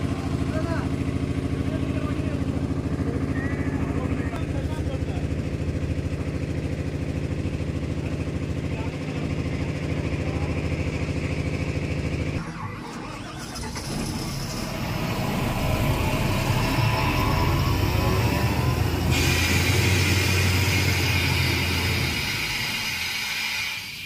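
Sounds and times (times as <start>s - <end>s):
heavy engine running: 0.0s - 24.0s.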